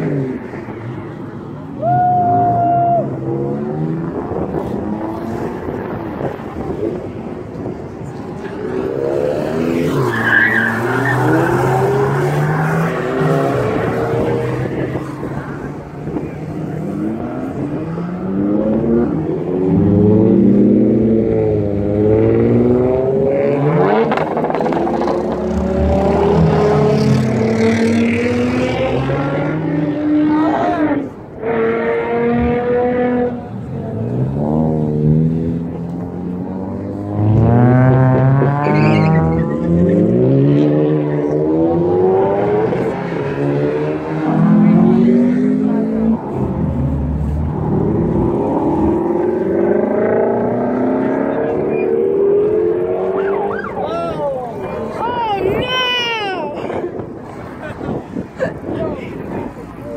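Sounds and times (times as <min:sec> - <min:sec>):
car engines accelerating: 0:00.0 - 0:59.9.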